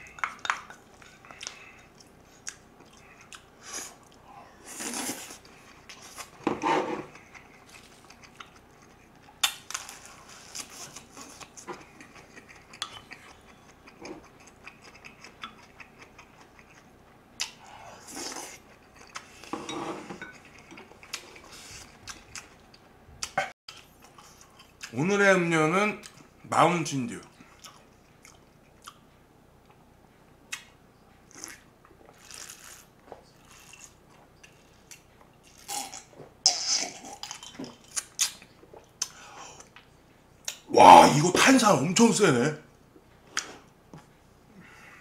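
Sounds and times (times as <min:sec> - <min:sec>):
person chewing food: 0:00.0 - 0:19.5, 0:20.2 - 0:24.9, 0:27.4 - 0:29.1, 0:30.5 - 0:40.7.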